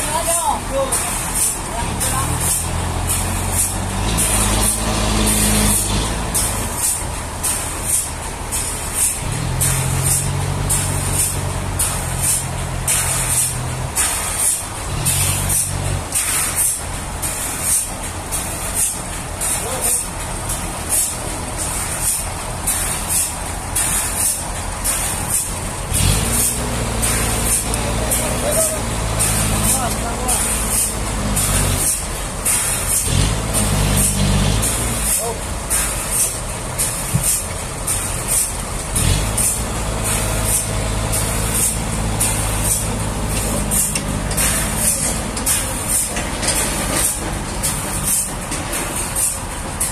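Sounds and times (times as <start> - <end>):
heavy engine running: 0.0 - 49.9.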